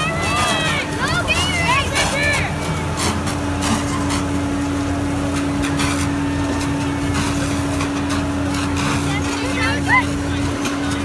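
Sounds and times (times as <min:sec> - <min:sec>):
fire engine pump droning: 0:00.0 - 0:11.0
hose streams spraying water: 0:00.0 - 0:11.0.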